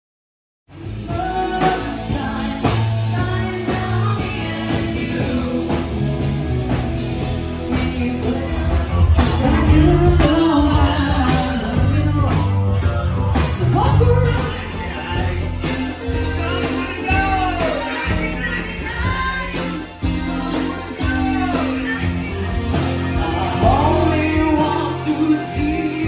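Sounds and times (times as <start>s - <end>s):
live rock band playing: 0.7s - 26.0s
woman singing: 1.0s - 6.2s, 7.6s - 12.6s, 13.4s - 26.0s.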